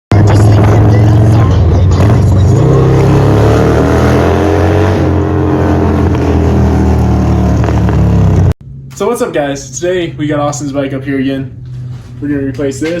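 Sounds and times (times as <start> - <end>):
motorcycle engine running: 0.1 - 13.0.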